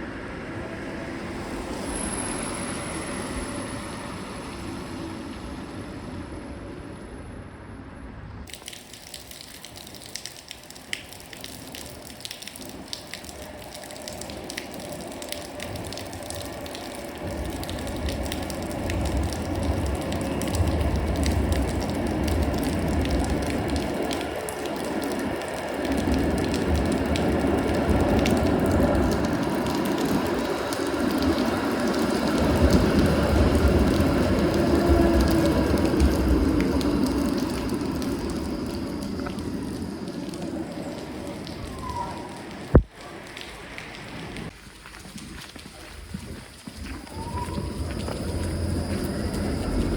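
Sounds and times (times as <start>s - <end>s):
rail vehicle deep rumble: 0.0s - 8.5s, 11.8s - 42.7s, 45.3s - 49.9s.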